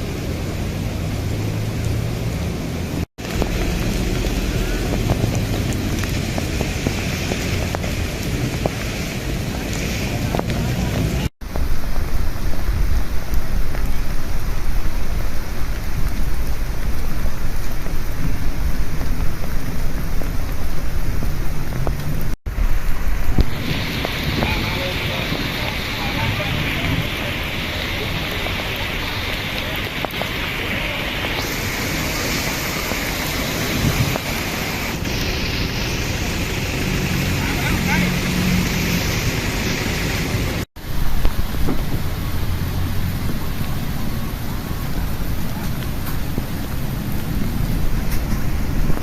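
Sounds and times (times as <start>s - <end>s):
heavy rain pouring: 0.0s - 49.0s
strong gusting wind: 0.0s - 49.0s.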